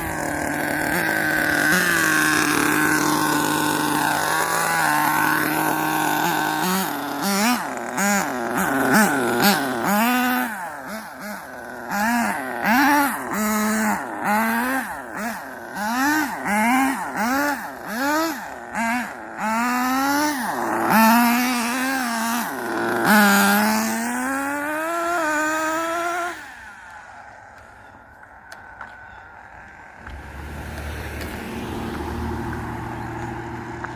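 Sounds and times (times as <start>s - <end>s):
toy car motor revving: 0.0s - 28.6s.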